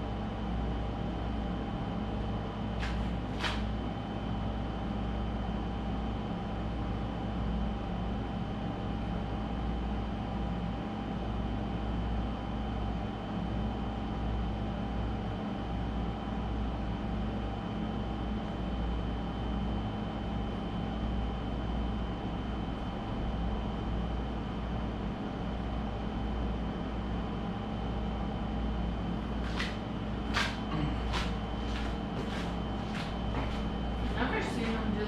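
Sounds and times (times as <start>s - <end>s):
machine hum with low drone: 0.0s - 35.0s.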